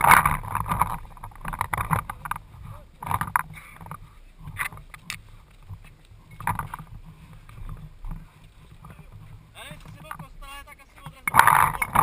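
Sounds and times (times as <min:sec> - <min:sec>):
gear rustling: 0:00.0 - 0:12.0
low rumble of handling noise: 0:00.0 - 0:12.0
footsteps walking: 0:00.3 - 0:12.0.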